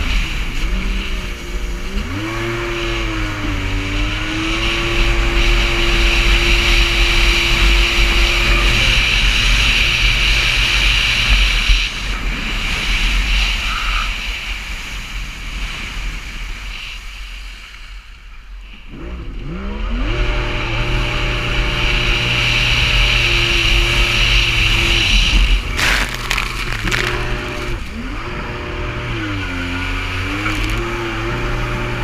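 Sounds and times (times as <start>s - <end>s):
motor engine running and revving: 0.0s - 16.6s, 18.7s - 32.0s.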